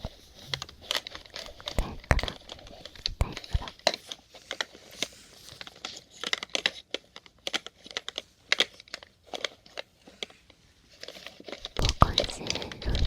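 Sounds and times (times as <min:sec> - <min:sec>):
plastic syringes clicking and rattling: 0:00.0 - 0:13.0.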